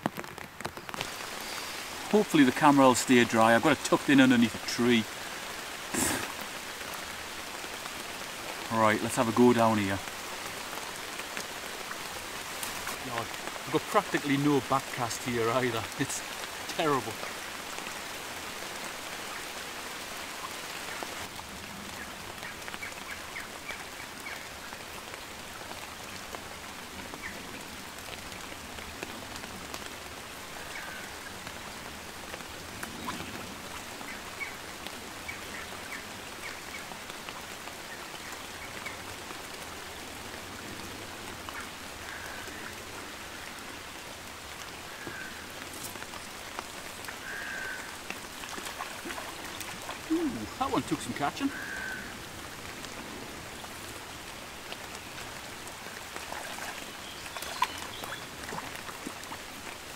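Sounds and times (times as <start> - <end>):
heavy rain on river and leaves: 0.0 - 59.9.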